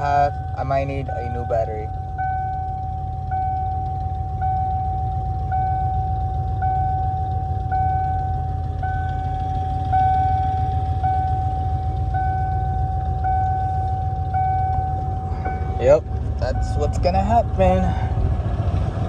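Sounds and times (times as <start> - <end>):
electronic warning tone: 0.0 - 18.1
van engine idling: 0.0 - 19.0.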